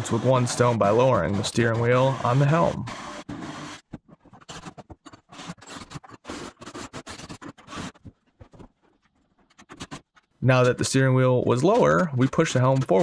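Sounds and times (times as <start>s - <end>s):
hardware scratching and clicking: 0.0s - 13.0s.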